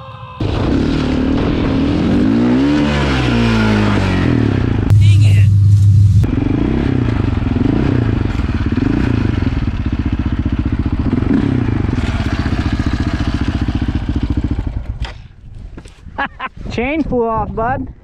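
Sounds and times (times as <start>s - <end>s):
quad engine revving: 0.4s - 15.0s.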